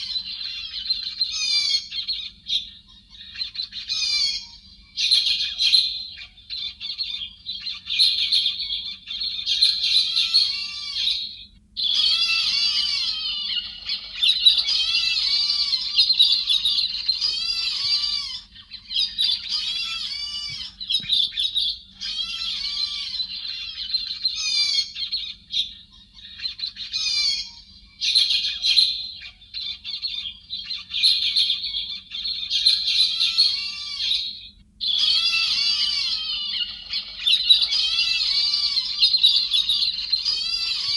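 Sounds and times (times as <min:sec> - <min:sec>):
thrushes chirping and chattering: 0:00.0 - 0:40.9.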